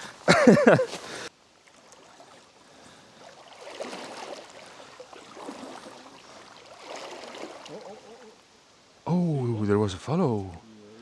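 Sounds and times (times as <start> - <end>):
river water burbling: 0.0 - 11.0.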